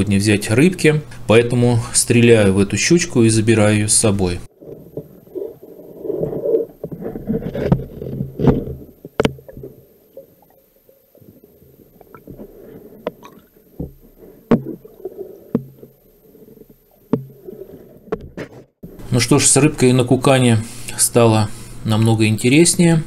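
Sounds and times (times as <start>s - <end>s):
muffled underwater water movement: 0.0s - 22.7s.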